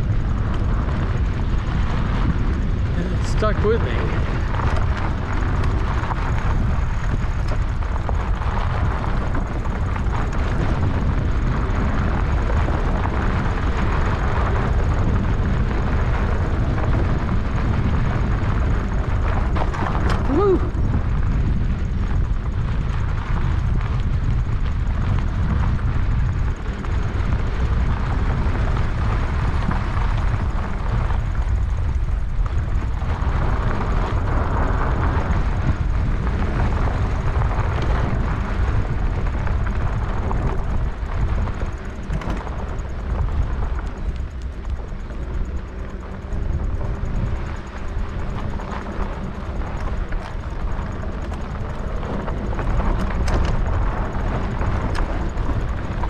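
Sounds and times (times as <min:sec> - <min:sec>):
tyres rolling over trail: 0:00.0 - 0:56.0
wind buffeting microphone: 0:00.0 - 0:56.0.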